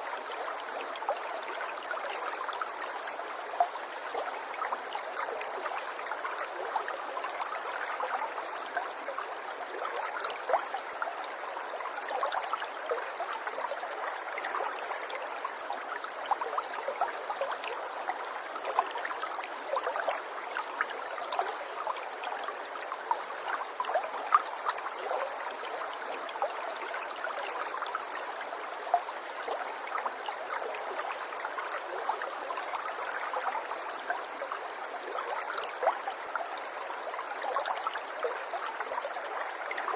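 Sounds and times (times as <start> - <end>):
stream flowing with splashes: 0.0 - 39.9.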